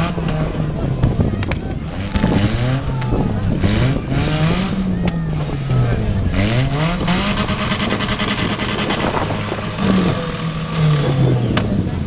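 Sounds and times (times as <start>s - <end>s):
car engines revving: 0.0s - 12.0s
tires spinning on dirt: 0.0s - 12.0s.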